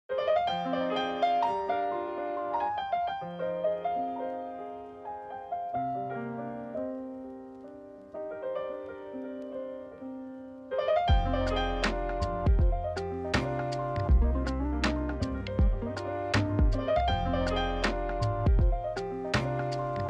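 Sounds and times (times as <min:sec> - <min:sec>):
soft piano music: 0:00.1 - 0:20.0.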